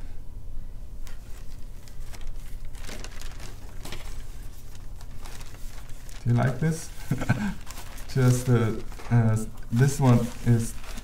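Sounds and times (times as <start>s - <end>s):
low steady hum: 0.0s - 11.0s
paper sheets rustling: 1.0s - 11.0s.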